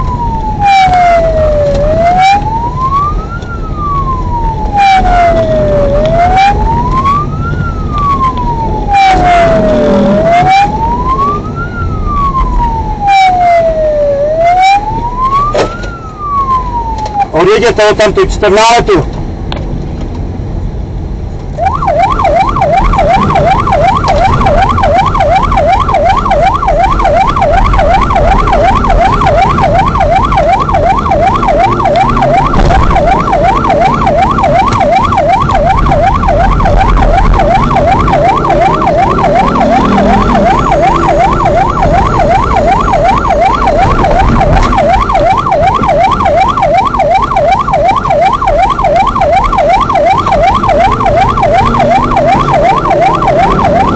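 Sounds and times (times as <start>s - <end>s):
vehicle siren yelping: 0.0s - 19.0s, 21.5s - 53.9s
car engine and road noise: 0.0s - 53.9s.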